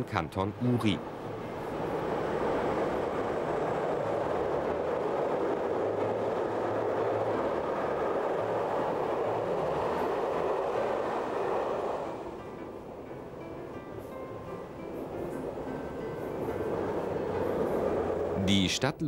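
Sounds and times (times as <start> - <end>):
train wheels rumbling on rails: 0.0 - 18.8.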